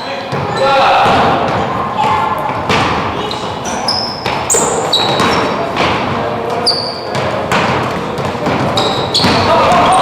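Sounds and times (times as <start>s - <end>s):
sneaker squeaks: 0.0s - 10.0s
basketball bouncing on court: 0.3s - 10.0s.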